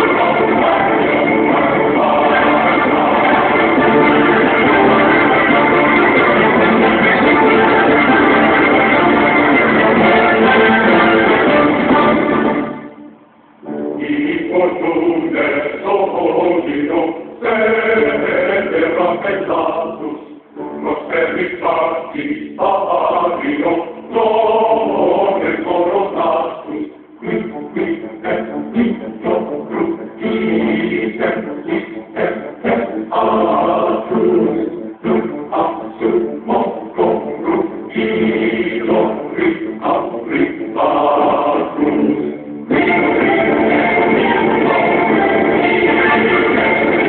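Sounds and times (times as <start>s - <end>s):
choir singing: 0.0s - 47.0s.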